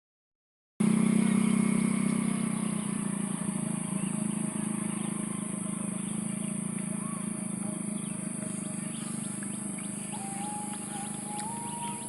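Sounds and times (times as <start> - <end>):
high-pitched whine: 0.8 - 12.0
vehicle engine humming: 0.8 - 12.0.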